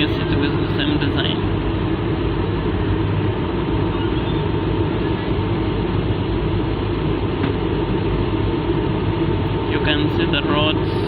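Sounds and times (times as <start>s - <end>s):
airflow over fuselage: 0.0s - 11.0s
jet engines in cabin: 0.0s - 11.0s.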